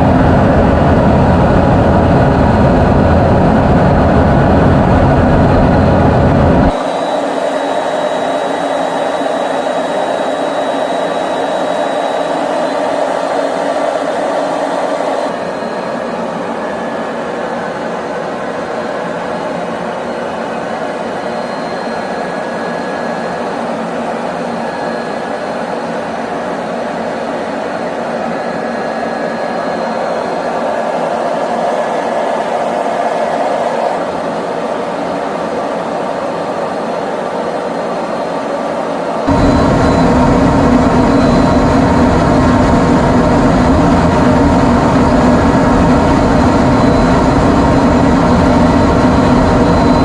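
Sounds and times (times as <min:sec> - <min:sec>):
faint high whine: 0:00.0 - 0:50.0
rushing machine noise: 0:00.0 - 0:50.0.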